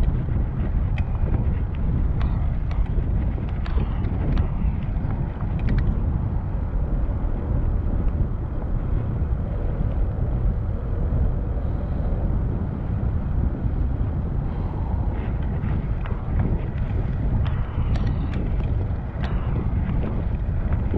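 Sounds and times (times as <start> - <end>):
bicycle road noise: 0.0 - 20.9
wind: 0.0 - 20.9.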